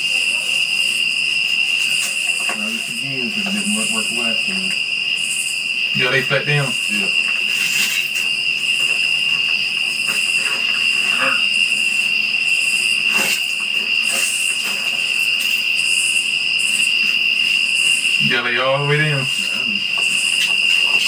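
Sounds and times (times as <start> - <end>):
cricket chorus trilling: 0.0 - 21.0
high insect buzz: 0.0 - 21.0.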